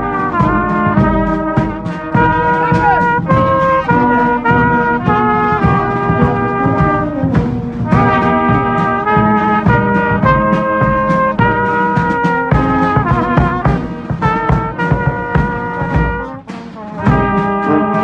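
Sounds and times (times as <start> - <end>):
bass drum beat: 0.0 - 18.0
marching brass band playing: 0.0 - 18.0.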